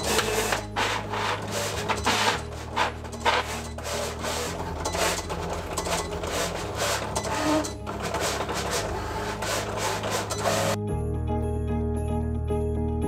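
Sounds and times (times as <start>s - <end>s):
cutting machine motors whirring: 0.0s - 10.8s.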